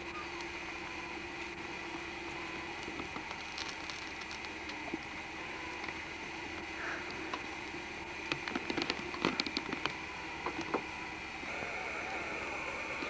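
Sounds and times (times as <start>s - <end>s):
faint hum: 0.0s - 13.0s
steady hiss: 0.0s - 13.0s.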